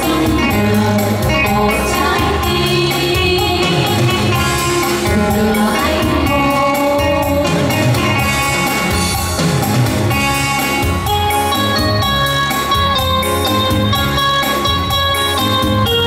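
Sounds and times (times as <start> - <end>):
instrumental band music: 0.0 - 16.0.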